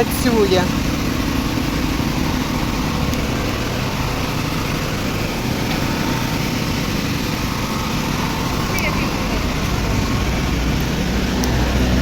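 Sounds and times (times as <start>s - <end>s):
portable generator running: 0.0s - 12.0s.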